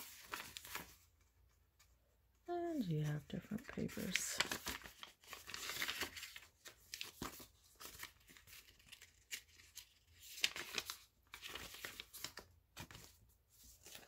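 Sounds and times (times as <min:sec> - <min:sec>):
paper pages rustling: 0:00.0 - 0:02.0, 0:03.4 - 0:14.0.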